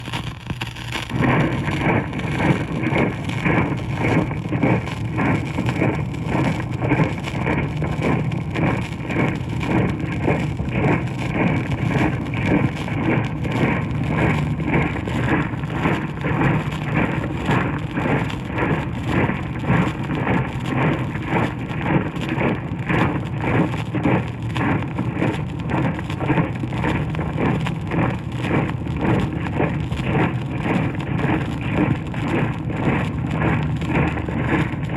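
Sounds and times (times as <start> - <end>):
record surface hiss: 0.0 - 34.9.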